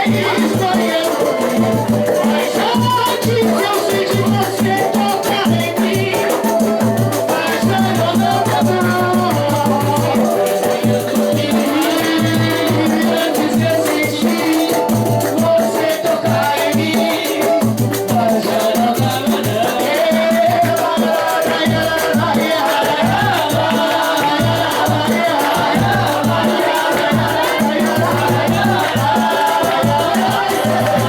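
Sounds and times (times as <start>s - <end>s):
samba band playing: 0.0s - 31.0s.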